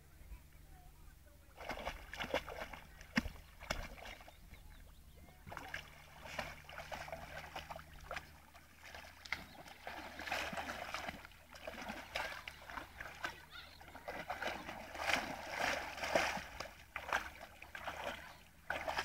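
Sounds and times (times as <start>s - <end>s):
dog splashing in water: 1.6s - 4.5s, 5.4s - 19.0s.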